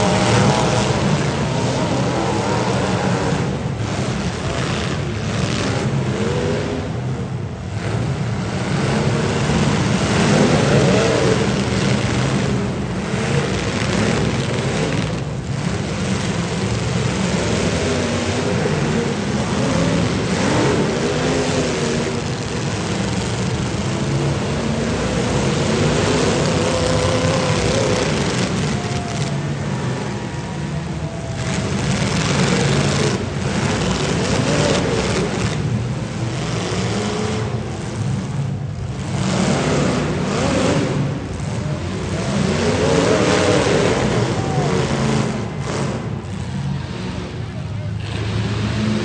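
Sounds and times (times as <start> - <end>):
car engines revving together: 0.0 - 49.0.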